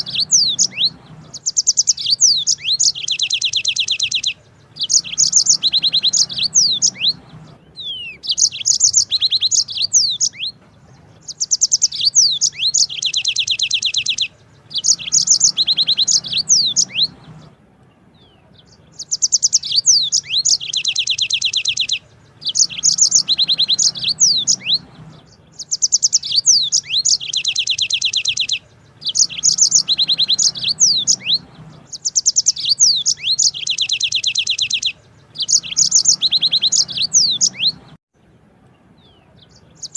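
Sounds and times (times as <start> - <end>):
canary singing trills and whistles: 0.0 - 38.0, 38.8 - 39.9.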